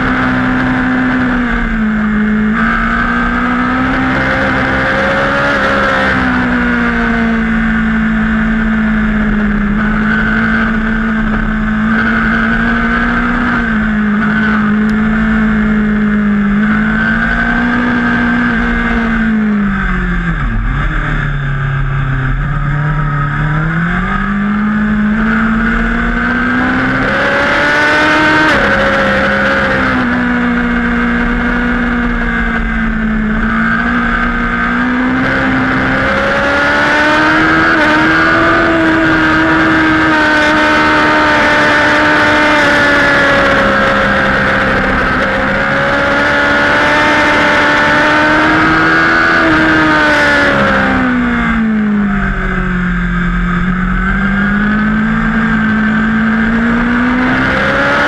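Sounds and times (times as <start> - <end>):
superbike engine revving: 0.0 - 58.0.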